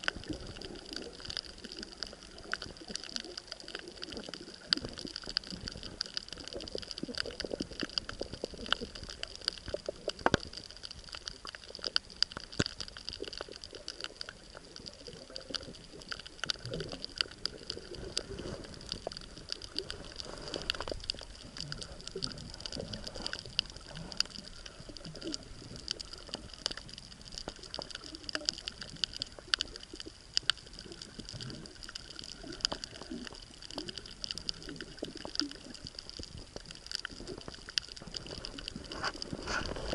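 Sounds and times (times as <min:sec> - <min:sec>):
steady hiss: 0:00.0 - 0:39.9
underwater clicks and crackles: 0:00.0 - 0:39.9
water gurgling: 0:00.0 - 0:39.9.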